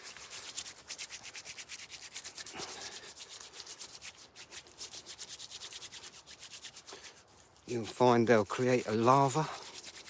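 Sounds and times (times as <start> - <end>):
wet hands rubbing leaves: 0.0 - 10.0.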